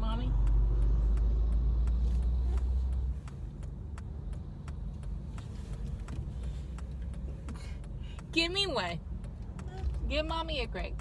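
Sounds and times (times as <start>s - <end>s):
faint evenly spaced ticks: 0.0s - 11.0s
road and engine rumble: 0.0s - 11.0s.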